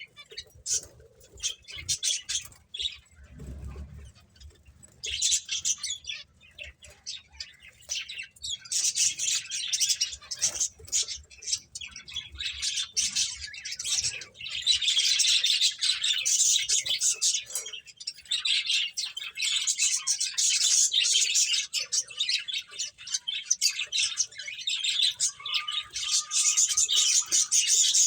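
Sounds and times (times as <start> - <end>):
finches chirping and twittering: 0.0 - 28.0.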